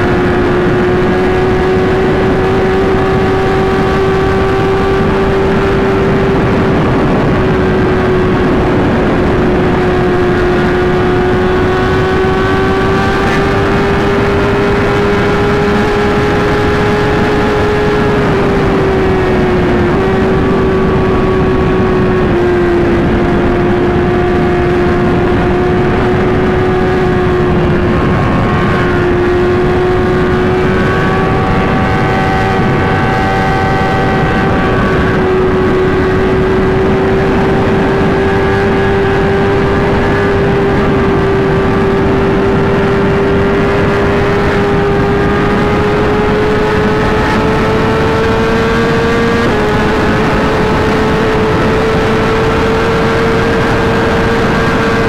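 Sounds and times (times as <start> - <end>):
motorcycle engine at high revs: 0.0 - 55.0
wind rush: 0.0 - 55.0.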